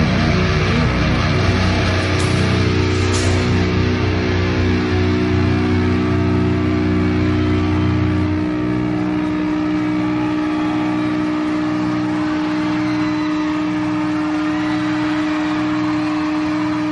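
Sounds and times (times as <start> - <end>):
amplifier feedback droning: 0.0 - 16.9
distorted electric guitar chord: 0.0 - 16.9
low bass note: 0.0 - 16.9.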